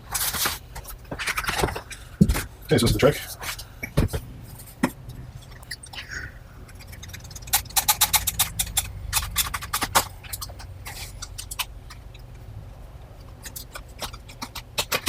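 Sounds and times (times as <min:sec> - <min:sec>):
low steady hum: 0:00.0 - 0:15.0
parts clicking and rattling: 0:00.0 - 0:15.0.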